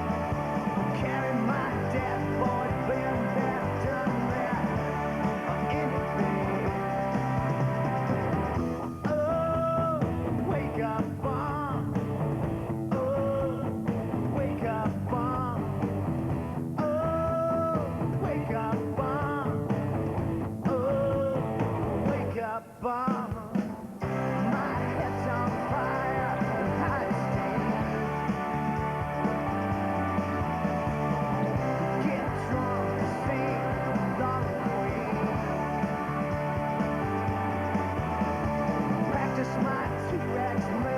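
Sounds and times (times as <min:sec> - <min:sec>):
rock song with singing: 0:00.0 - 0:40.9.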